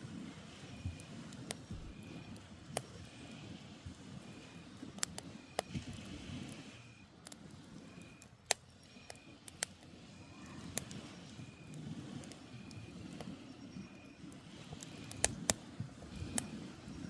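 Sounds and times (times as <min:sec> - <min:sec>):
campfire crackling and popping: 0:00.5 - 0:17.0.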